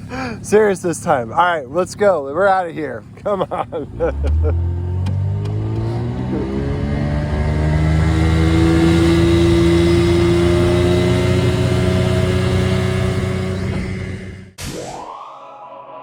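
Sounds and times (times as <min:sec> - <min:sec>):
engine running: 0:00.0 - 0:14.6.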